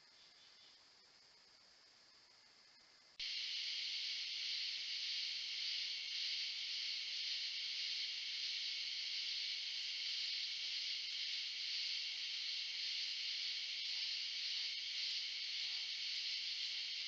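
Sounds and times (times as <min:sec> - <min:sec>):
faint insect trill: 0:00.0 - 0:17.0
night insects droning: 0:00.0 - 0:17.0.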